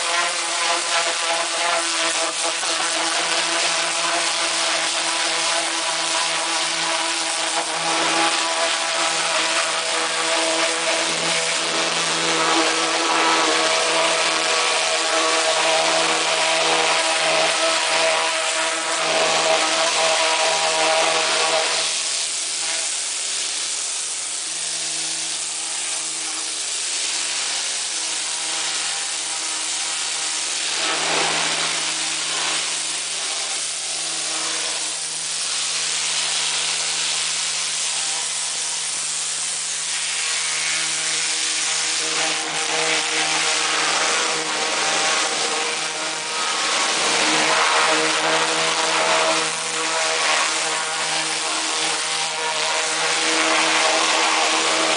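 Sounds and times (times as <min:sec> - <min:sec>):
hiss of water spray: 0:00.0 - 0:54.9
pressure washer motor humming: 0:00.0 - 0:54.9.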